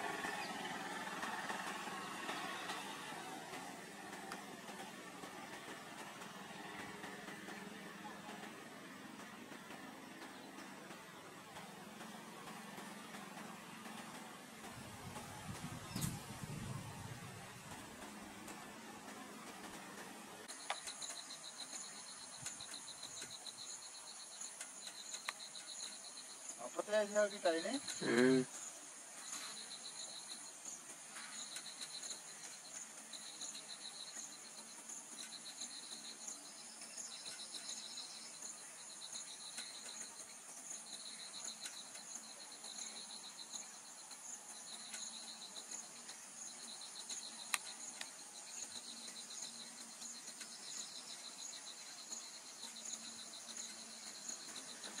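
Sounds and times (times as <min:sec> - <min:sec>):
insects chirping in pulsing bursts: 0:00.0 - 0:55.0.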